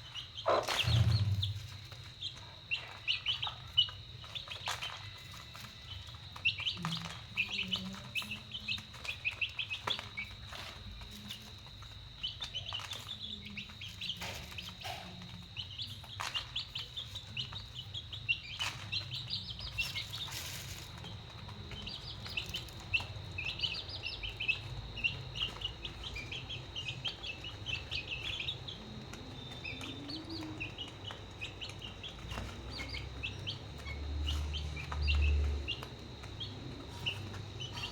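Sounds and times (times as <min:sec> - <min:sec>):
baby chicks peeping: 0:00.0 - 0:37.9.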